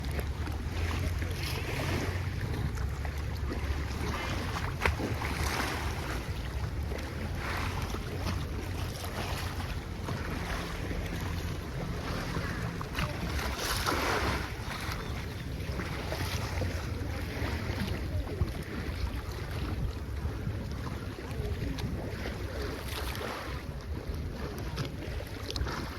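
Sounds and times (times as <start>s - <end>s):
sea waves breaking on shore: 0.0s - 25.9s
wind rumble on microphone: 0.0s - 25.9s.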